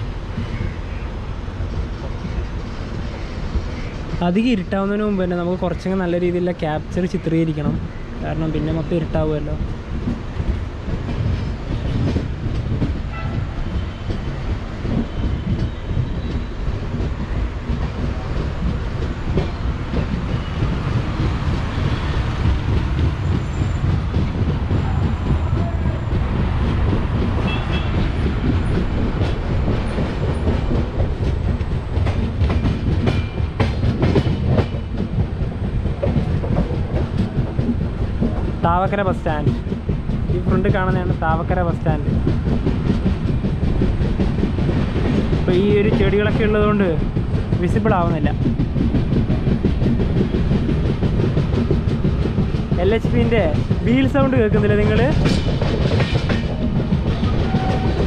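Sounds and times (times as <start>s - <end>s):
train wheels rumbling on rails: 0.0s - 58.0s
wheels clattering over rail joints: 9.4s - 58.0s.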